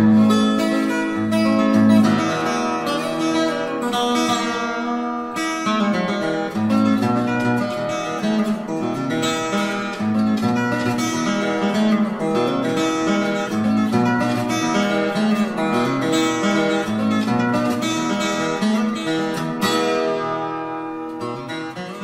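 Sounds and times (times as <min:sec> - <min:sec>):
acoustic guitar picking and strumming: 0:00.0 - 0:22.0.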